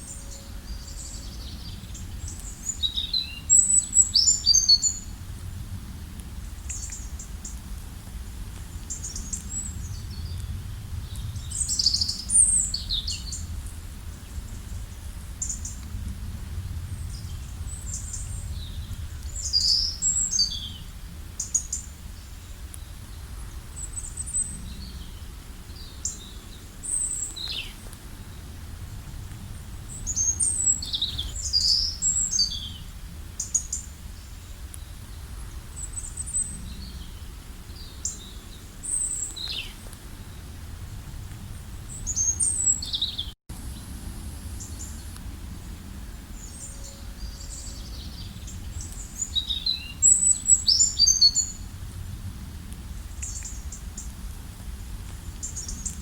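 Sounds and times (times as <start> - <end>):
songbirds chirping: 0.0 - 16.0, 16.6 - 56.0
steady low rumble: 0.0 - 56.0.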